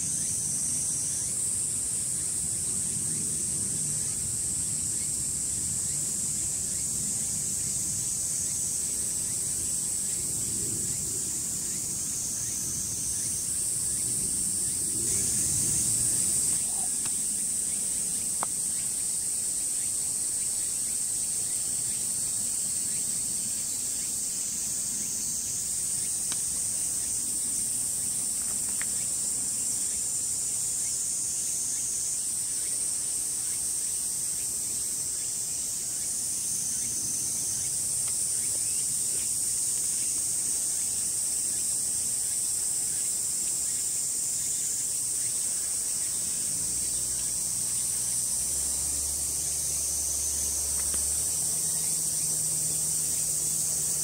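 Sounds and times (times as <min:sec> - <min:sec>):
insects shrilling: 0:00.0 - 0:54.0.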